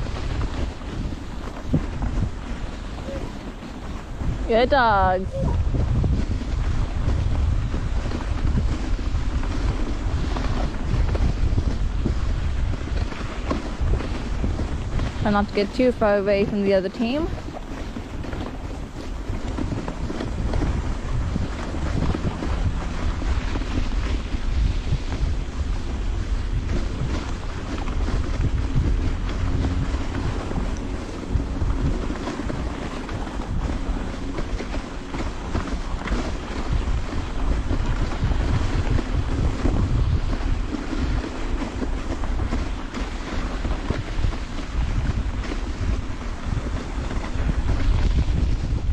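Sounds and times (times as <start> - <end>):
sled runners scraping over snow: 0.0 - 48.9
wind buffeting microphone: 0.0 - 48.9.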